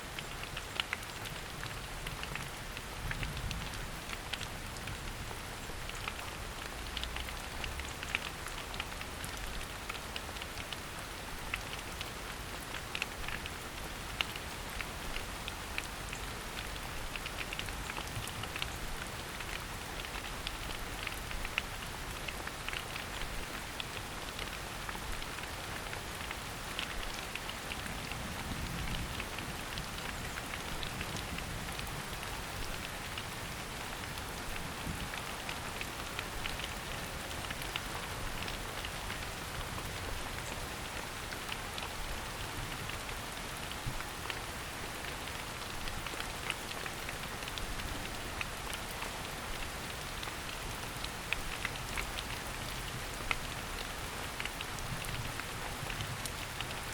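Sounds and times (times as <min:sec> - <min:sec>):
rain pattering on leaves: 0:00.0 - 0:56.9.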